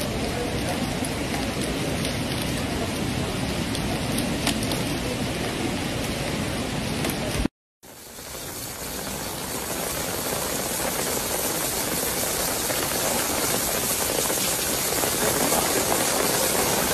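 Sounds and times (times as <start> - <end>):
water pouring from rain spout: 0.0 - 6.8, 7.8 - 16.9
heavy rain: 0.0 - 16.9.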